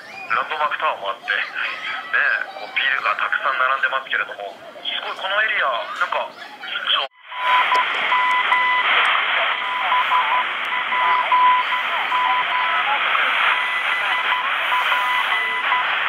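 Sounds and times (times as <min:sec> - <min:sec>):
radio static hiss: 0:00.2 - 0:16.0.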